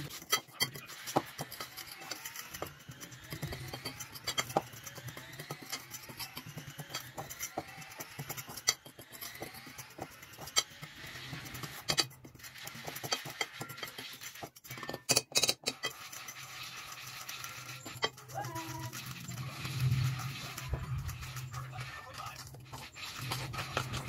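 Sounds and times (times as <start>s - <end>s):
spoon stirring flour in bowl: 0.0s - 24.0s.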